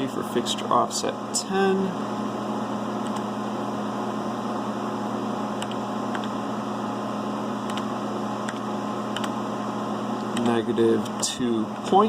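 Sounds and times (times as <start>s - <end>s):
electrical hum of phase converter: 0.0s - 12.0s.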